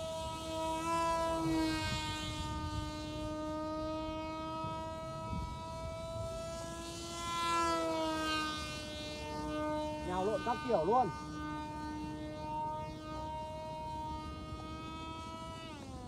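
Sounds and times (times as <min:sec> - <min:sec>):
model jet motor whining: 0:00.0 - 0:16.0
wind rumble on microphone: 0:00.0 - 0:16.0.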